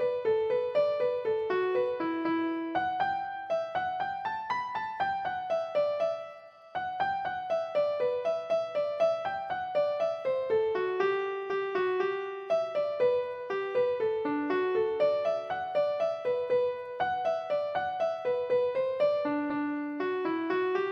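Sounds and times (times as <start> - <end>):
piano melody: 0.0 - 20.9.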